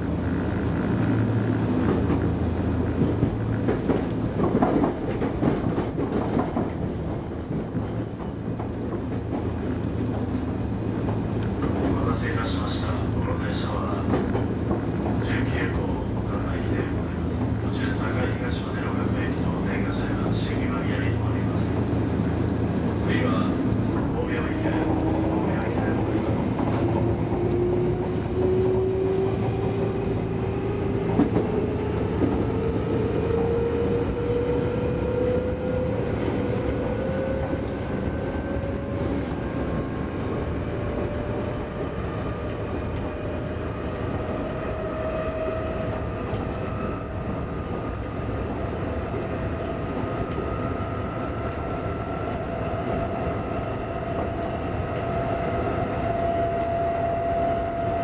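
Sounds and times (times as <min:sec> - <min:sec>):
train motor and gear whine: 0:00.0 - 0:58.0
train running on track: 0:00.0 - 0:58.0.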